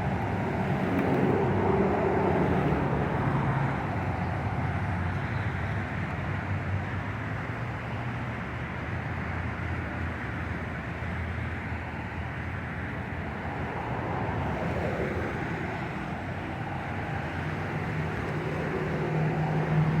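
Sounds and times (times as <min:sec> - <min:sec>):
low traffic hum: 0:00.0 - 0:20.0.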